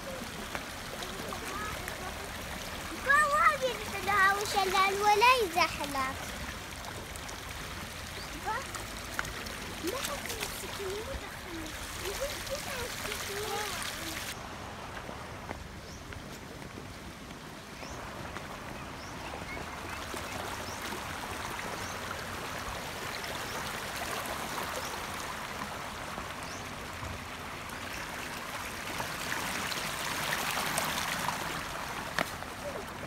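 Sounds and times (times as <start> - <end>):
stream babbling over rocks: 0.0 - 15.8, 16.7 - 33.0.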